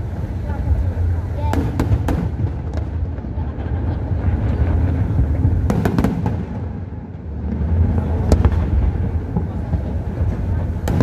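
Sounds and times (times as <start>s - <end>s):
distant firework bursts rumbling: 0.0s - 11.0s
sharp firework cracks: 0.0s - 11.0s.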